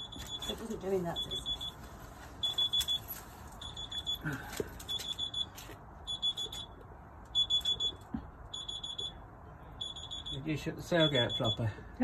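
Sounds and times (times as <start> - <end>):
electronic alarm beeping: 0.0 - 1.8, 2.4 - 11.8.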